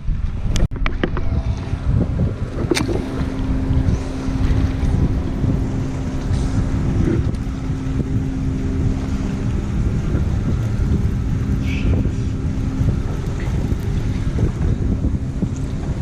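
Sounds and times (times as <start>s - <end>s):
wind buffeting microphone: 0.0s - 16.0s
faint steady hum: 0.8s - 16.0s.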